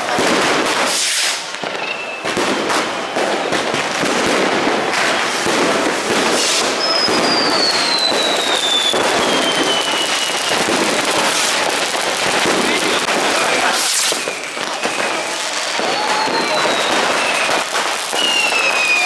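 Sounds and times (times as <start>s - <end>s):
fireworks crackling and banging: 0.0s - 19.0s
whistling firework falling in pitch: 0.0s - 19.0s.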